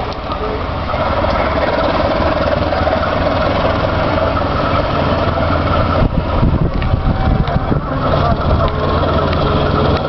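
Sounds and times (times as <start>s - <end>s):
diesel locomotive engine drone: 0.0s - 10.0s
uneven low rumble: 0.0s - 10.0s.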